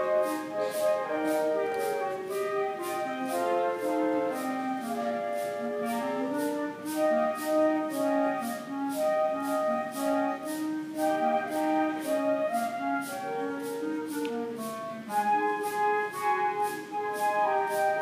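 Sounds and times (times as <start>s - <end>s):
shaken percussion beat: 0.0s - 18.0s
wind band playing: 0.0s - 18.0s.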